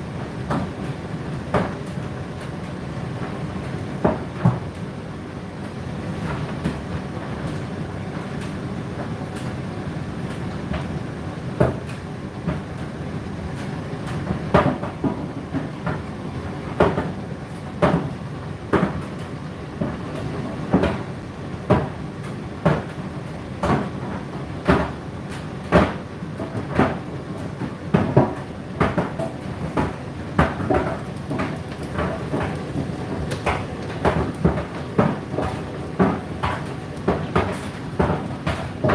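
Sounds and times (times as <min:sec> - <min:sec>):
washing machine motor hum: 0:06.8 - 0:38.9.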